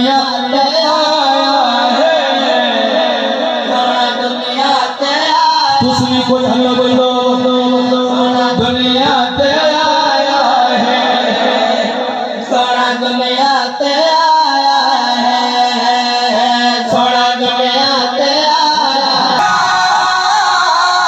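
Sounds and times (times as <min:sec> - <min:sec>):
man singing into microphone: 0:00.0 - 0:21.0.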